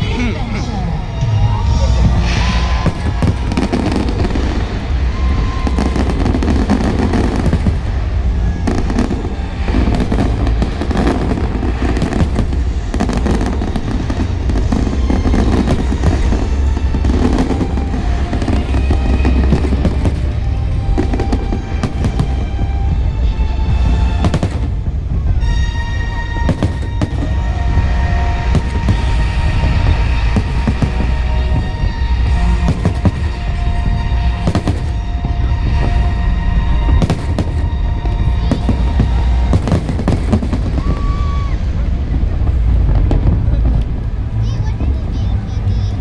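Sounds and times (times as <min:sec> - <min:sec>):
show music: 0:00.0 - 0:42.9
fireworks booming and crackling: 0:00.0 - 0:46.0.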